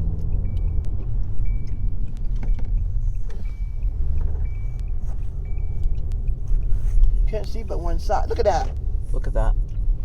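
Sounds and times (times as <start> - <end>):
car engine rumble: 0.0 - 10.0
road noise: 0.0 - 10.0.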